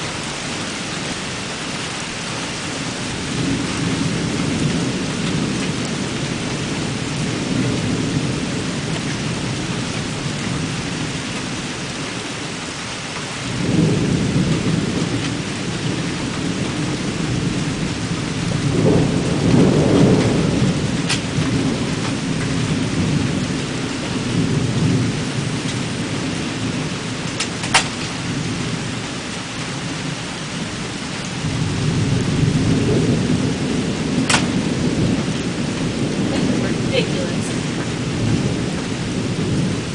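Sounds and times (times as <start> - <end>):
heavy rain: 0.0 - 39.9
rolling thunder: 2.6 - 12.3, 13.4 - 39.9.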